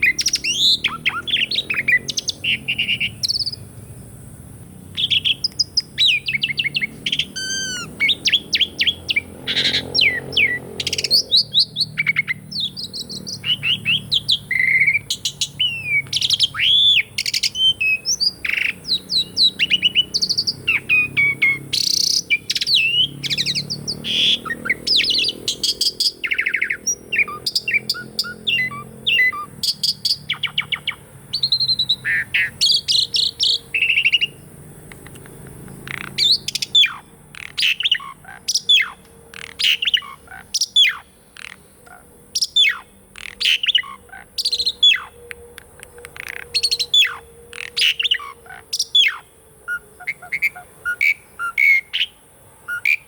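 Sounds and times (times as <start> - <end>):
sharp downward-sweeping bird calls: 0.0 - 3.8, 4.9 - 53.0
starling singing: 0.0 - 3.8, 4.6 - 53.0.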